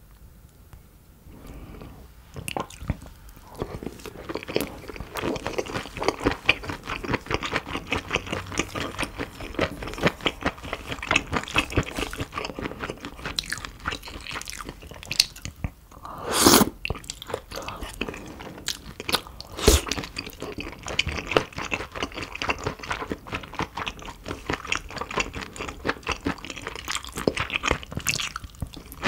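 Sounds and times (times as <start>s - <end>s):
food chewing crunches: 2.3s - 15.8s, 16.5s - 29.0s.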